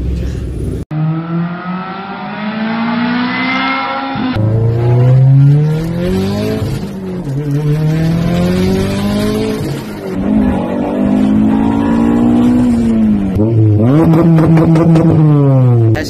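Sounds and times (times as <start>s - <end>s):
car engines accelerating hard: 0.8s - 16.0s.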